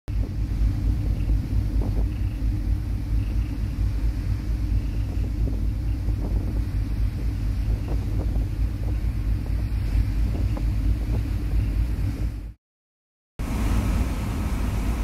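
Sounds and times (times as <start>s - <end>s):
ferry engine low rumble: 0.1s - 12.6s, 13.4s - 15.0s
wind buffeting microphone: 0.1s - 12.6s.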